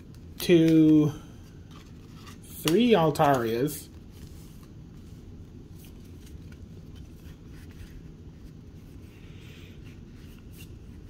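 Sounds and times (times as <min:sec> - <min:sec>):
low background hum: 0:00.0 - 0:11.0
trading cards rustling and clicking: 0:00.1 - 0:11.0.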